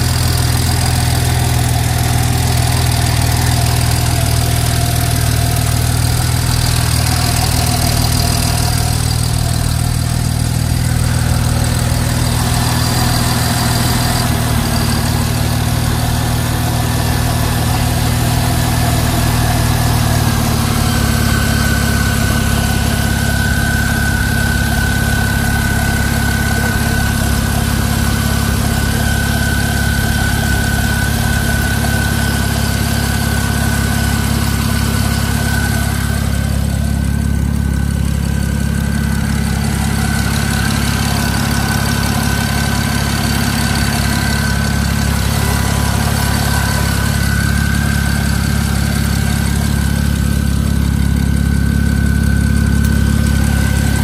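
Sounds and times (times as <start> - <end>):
car engine idling: 0.0 - 54.0
high whine: 0.0 - 54.0.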